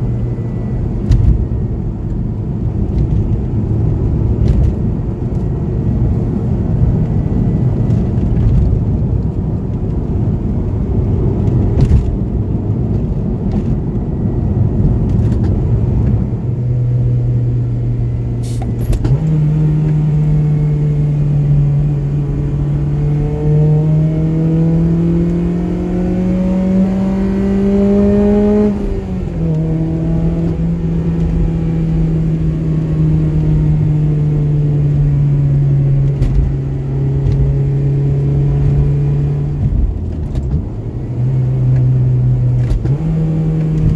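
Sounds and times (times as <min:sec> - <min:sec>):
car engine accelerating: 0:00.0 - 0:43.9
road rumble: 0:00.0 - 0:43.9.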